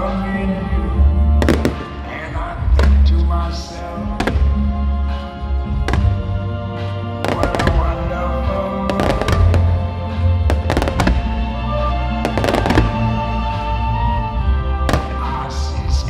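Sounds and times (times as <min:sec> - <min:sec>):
background music with heavy bass: 0:00.0 - 0:16.0
fireworks bangs and crackles: 0:01.3 - 0:04.8, 0:05.6 - 0:16.0.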